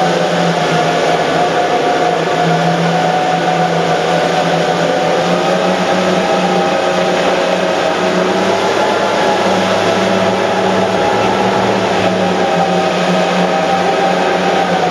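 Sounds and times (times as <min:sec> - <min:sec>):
boat engines droning: 0:00.0 - 0:14.9
churning wake and wind: 0:00.0 - 0:14.9.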